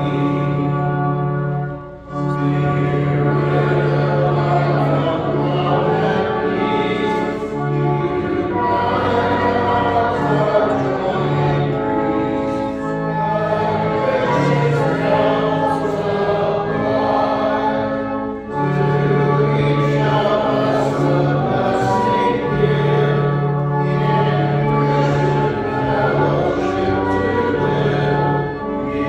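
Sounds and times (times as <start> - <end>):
accompaniment chords: 0.0 - 29.0
congregation singing a hymn: 0.0 - 29.0.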